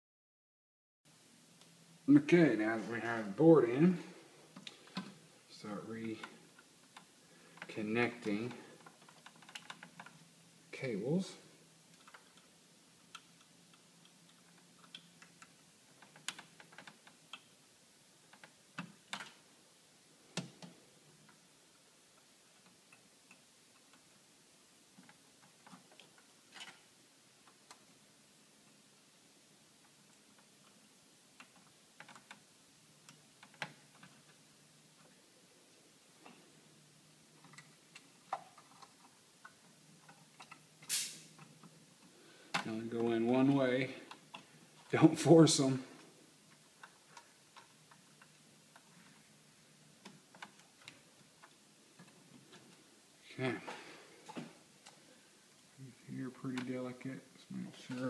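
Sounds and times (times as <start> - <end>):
wires rustling: 1.4 - 58.0.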